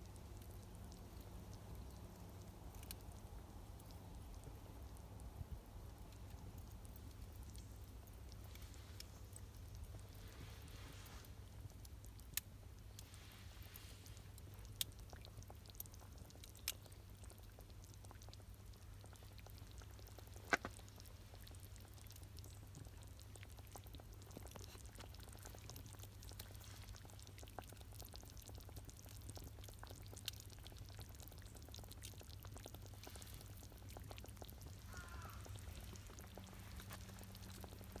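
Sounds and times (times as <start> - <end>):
campfire crackling pops: 0.0 - 10.3, 11.5 - 38.0
low steady hum: 0.0 - 38.0.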